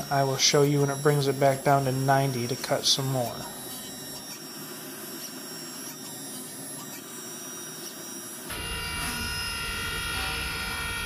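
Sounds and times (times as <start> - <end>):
machine whining tones: 0.0 - 11.0.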